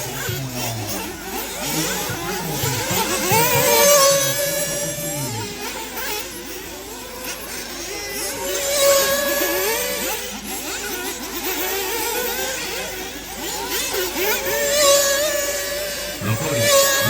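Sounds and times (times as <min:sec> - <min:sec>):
model buggy engines revving: 0:00.0 - 0:17.0.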